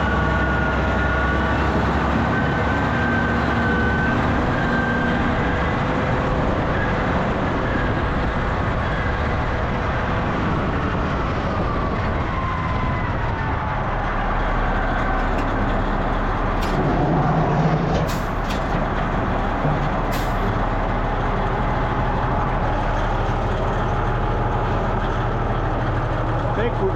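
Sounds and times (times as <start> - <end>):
heavy diesel machine running: 0.0 - 26.9.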